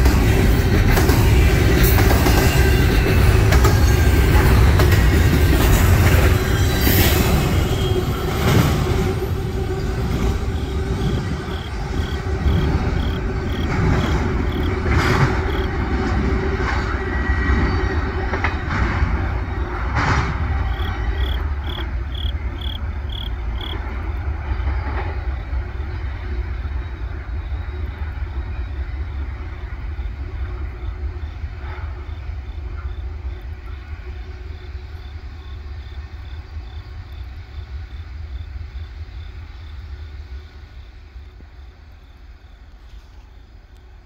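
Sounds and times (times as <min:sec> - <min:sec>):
freight train rumbling: 0:00.0 - 0:44.0
insects chirping: 0:00.0 - 0:44.0.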